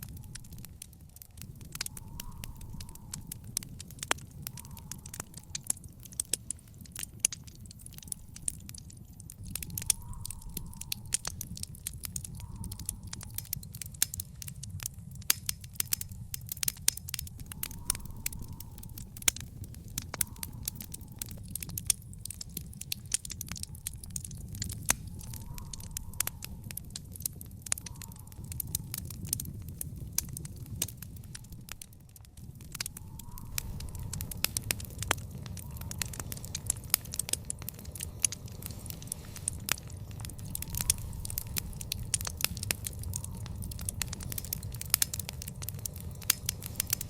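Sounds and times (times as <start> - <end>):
steady low rumble: 0.0 - 47.0
wood fire crackling and popping: 0.0 - 47.0.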